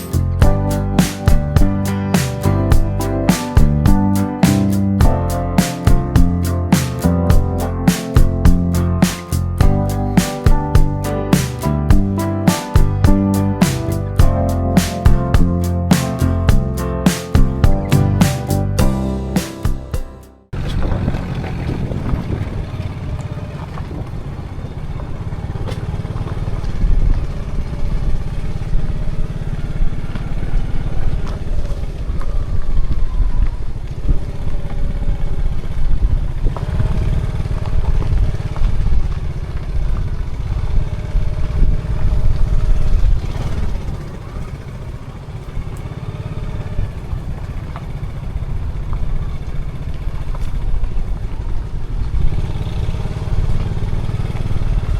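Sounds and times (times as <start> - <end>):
vehicle engine and road noise: 0.0 - 54.9.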